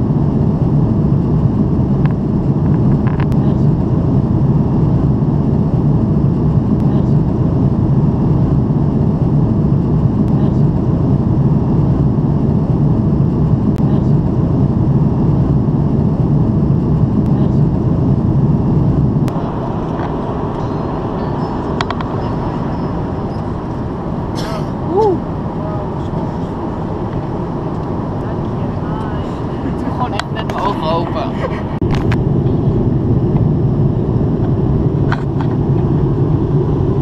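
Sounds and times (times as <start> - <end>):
airliner cabin jet engine noise: 0.0 - 37.0.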